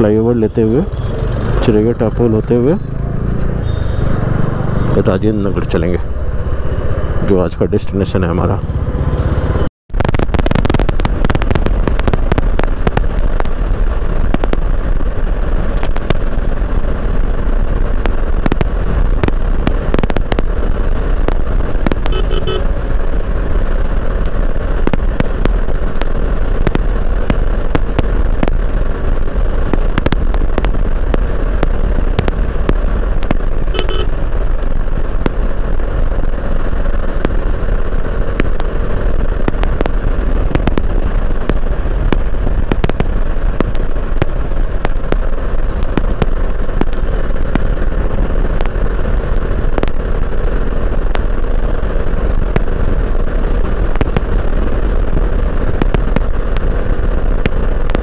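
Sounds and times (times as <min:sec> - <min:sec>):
motorcycle engine running: 0:00.8 - 0:04.9, 0:10.4 - 0:58.0.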